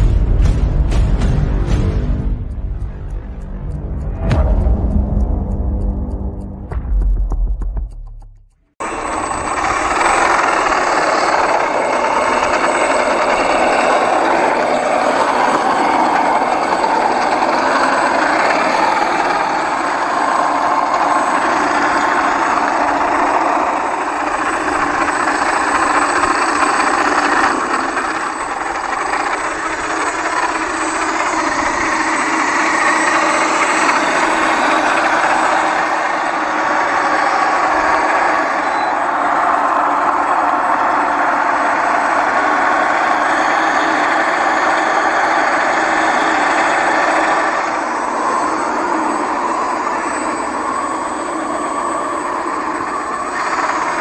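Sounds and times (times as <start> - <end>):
loud steady machine noise: 0.0 - 54.0.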